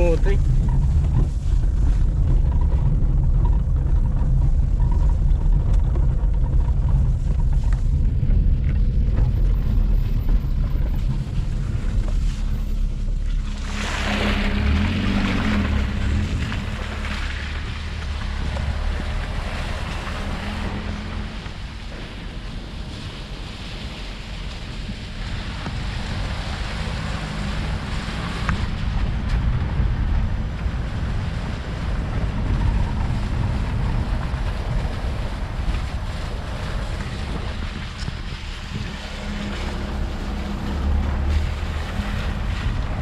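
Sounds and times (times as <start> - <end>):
car engine running: 0.0 - 43.0
tyres rumbling on dirt track: 0.0 - 43.0.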